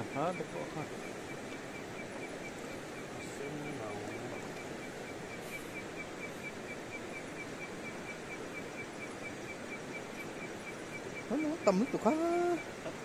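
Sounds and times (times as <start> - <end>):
faint high chirp: 0.0 - 13.0.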